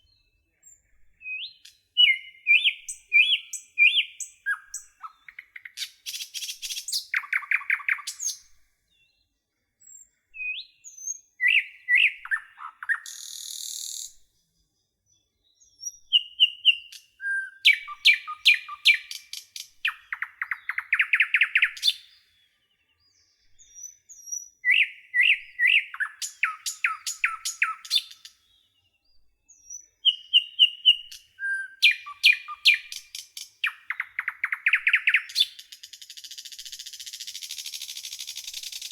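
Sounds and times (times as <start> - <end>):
nightingale singing: 0.0 - 9.2, 9.8 - 14.5, 15.1 - 38.9.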